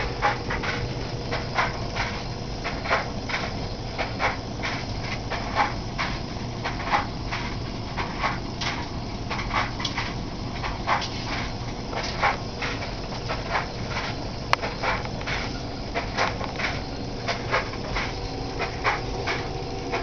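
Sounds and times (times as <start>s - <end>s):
blowtorch hiss: 0.0s - 20.0s
engine low hum: 0.0s - 20.0s.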